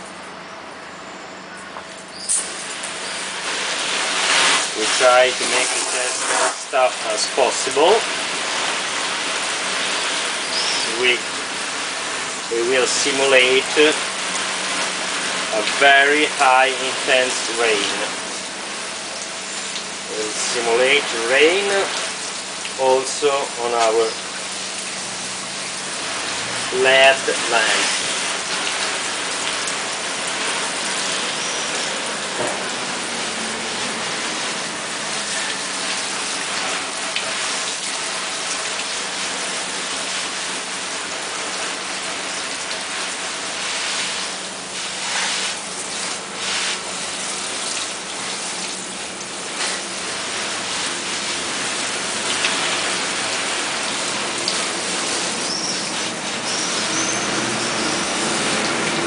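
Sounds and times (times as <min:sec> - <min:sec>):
hose water spraying onto surfaces: 0:01.6 - 0:59.0.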